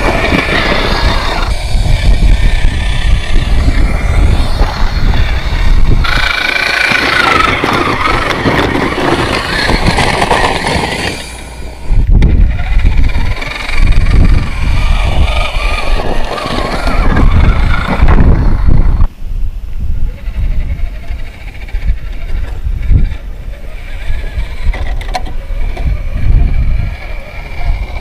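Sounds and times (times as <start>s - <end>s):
rc car motor whining: 0.0s - 19.1s, 20.1s - 28.0s
heavy low rumble: 0.0s - 28.0s.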